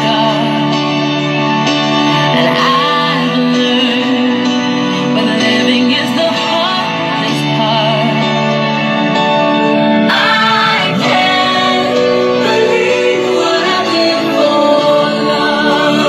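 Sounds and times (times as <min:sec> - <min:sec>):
song with singing voice: 0:00.0 - 0:16.0.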